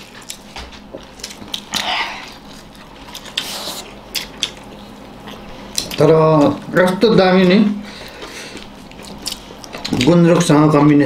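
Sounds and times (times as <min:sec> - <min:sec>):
food squishing on plates: 0:00.0 - 0:11.0
people chewing: 0:00.0 - 0:11.0.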